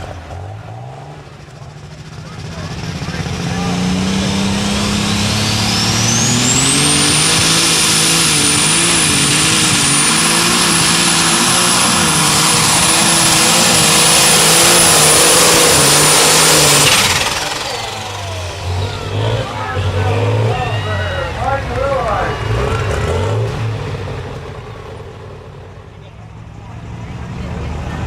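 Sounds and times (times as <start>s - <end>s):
turbocharger whine: 0.0s - 25.8s
tractor engine running flat out: 0.0s - 28.0s.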